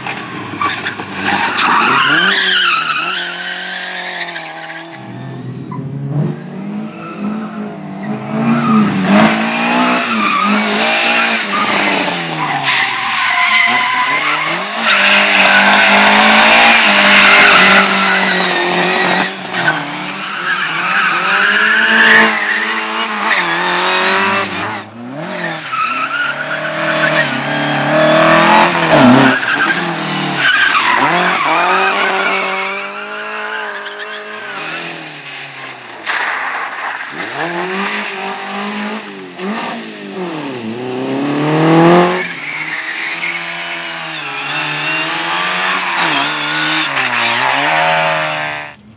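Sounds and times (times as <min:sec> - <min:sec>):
car engine revving: 0:04.4 - 0:35.4, 0:37.2 - 0:48.9.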